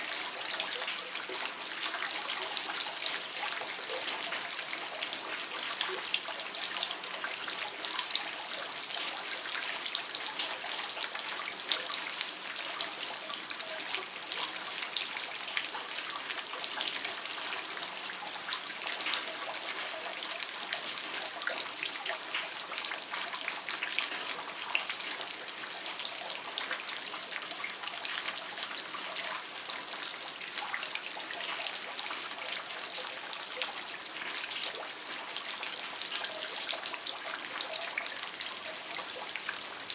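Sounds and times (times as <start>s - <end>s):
water trickling: 0.1s - 39.9s.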